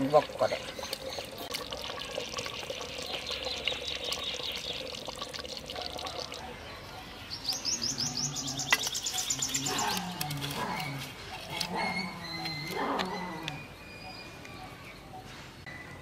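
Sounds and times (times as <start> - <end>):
small birds chirping: 0.1 - 5.1, 5.8 - 16.0.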